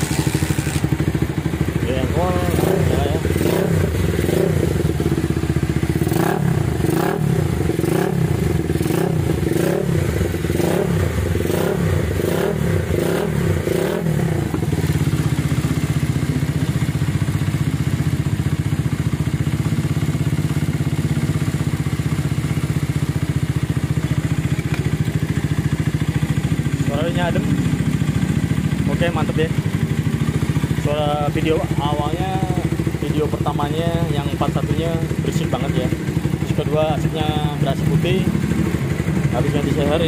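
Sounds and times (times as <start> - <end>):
motorcycle engine revving and idling: 0.0 - 40.0.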